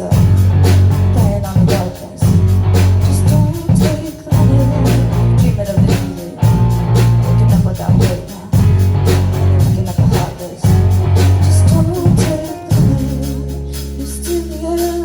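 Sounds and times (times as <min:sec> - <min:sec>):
bass notes: 0:00.0 - 0:15.0
electric guitar: 0:00.0 - 0:15.0.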